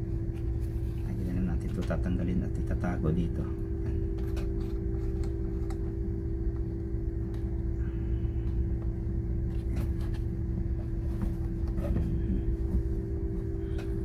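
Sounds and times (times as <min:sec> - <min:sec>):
low hum with pitched drone: 0:00.0 - 0:14.0.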